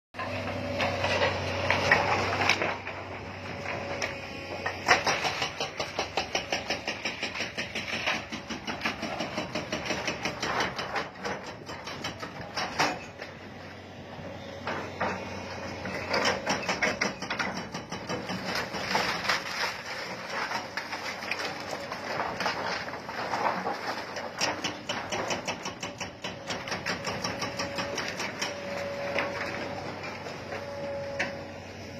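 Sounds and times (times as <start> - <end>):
wooden boards clattering and cracking: 0.2 - 13.4, 14.6 - 31.4
excavator engine running: 0.2 - 31.9.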